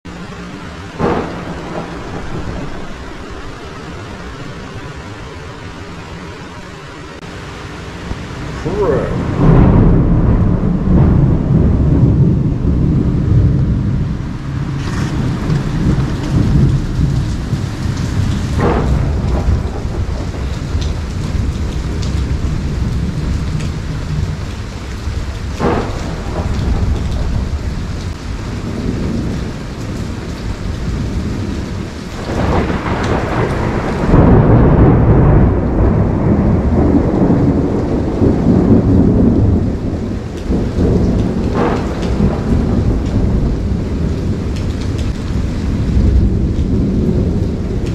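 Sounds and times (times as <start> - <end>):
steady rain: 0.0 - 47.9
rolling thunder: 0.1 - 47.9.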